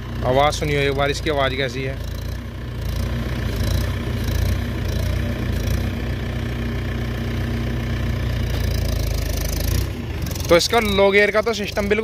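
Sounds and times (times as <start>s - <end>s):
diesel tractor engine idling: 0.0s - 12.0s.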